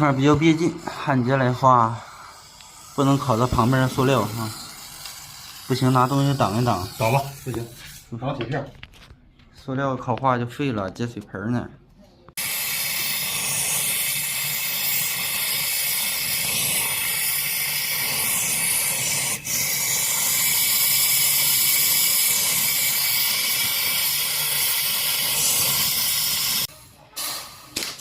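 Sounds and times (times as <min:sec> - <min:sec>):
gas torch hissing: 0:00.0 - 0:08.3, 0:12.3 - 0:28.0.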